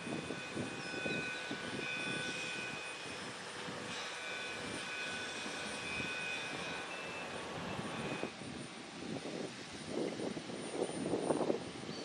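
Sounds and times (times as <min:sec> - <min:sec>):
heavy machinery engines droning: 0:00.0 - 0:12.0
thin steady whine: 0:00.0 - 0:12.0.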